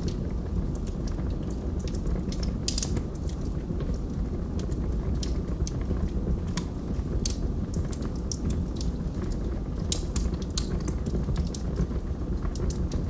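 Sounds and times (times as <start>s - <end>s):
logs crackling and popping: 0.0s - 13.0s
low rumble of flame: 0.0s - 13.0s.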